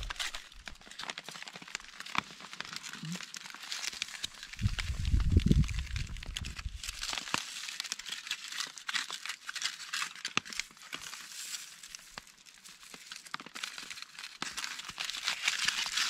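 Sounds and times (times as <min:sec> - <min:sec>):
aluminium foil crinkling: 0:00.0 - 0:16.0.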